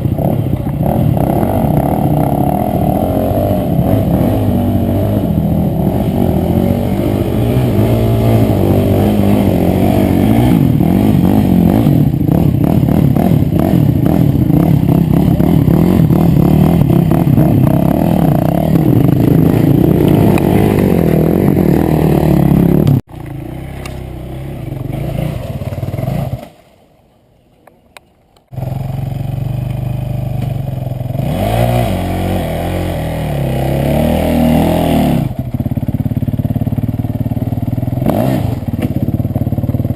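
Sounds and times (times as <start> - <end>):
motorcycle engines revving: 0.0 - 26.7, 28.4 - 39.9.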